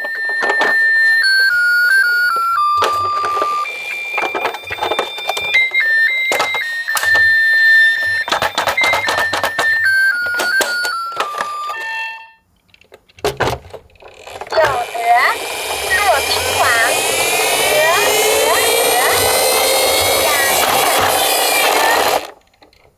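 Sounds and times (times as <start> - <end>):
toy cars clattering down slope: 0.0 - 12.0, 12.6 - 22.9.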